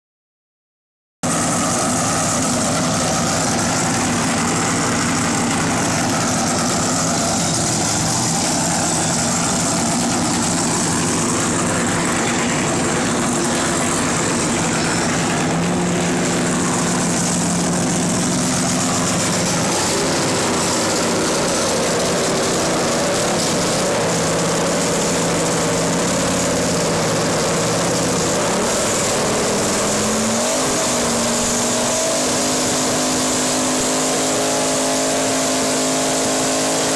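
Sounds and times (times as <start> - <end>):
race car engine revving: 1.2 - 36.9.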